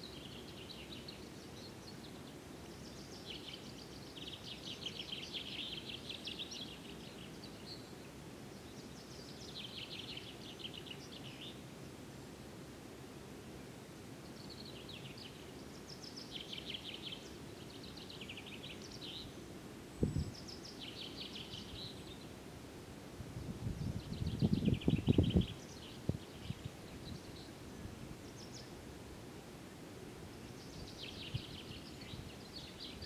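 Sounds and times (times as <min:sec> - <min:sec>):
songbirds singing trills: 0:00.0 - 0:12.5, 0:14.2 - 0:22.4, 0:23.4 - 0:28.9, 0:29.7 - 0:33.0.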